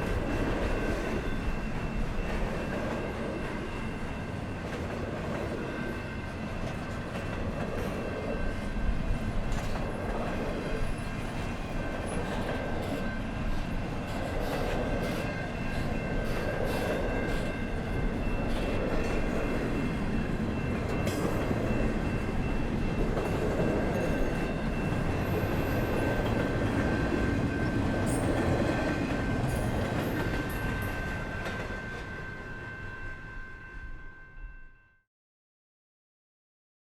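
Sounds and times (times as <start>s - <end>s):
train wagons rumbling on rails: 0.0s - 33.8s.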